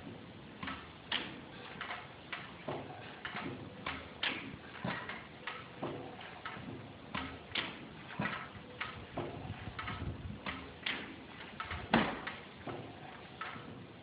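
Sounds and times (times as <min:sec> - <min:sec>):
gas engine clicking and knocking: 0:00.6 - 0:13.9.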